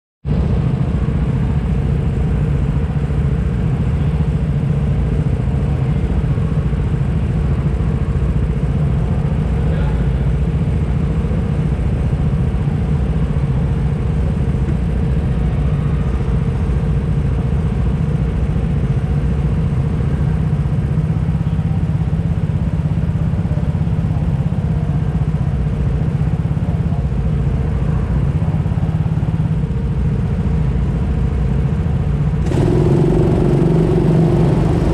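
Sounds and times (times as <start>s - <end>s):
go-kart engines idling: 0.3s - 34.9s.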